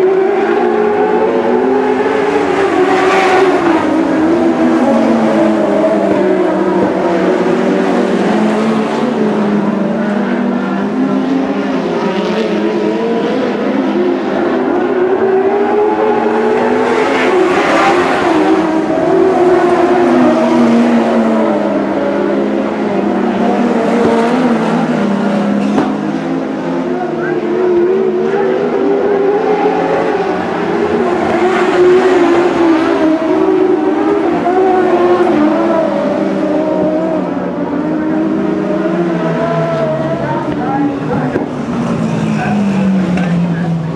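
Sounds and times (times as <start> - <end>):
race car engines revving: 0.0 - 43.9.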